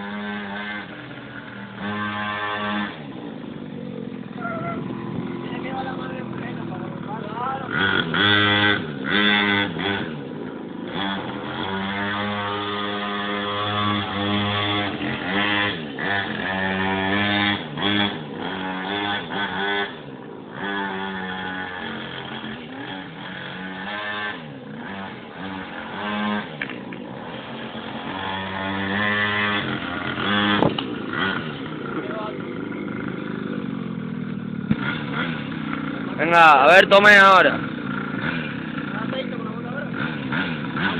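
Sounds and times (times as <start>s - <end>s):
mini moto engine revving: 0.0s - 40.9s.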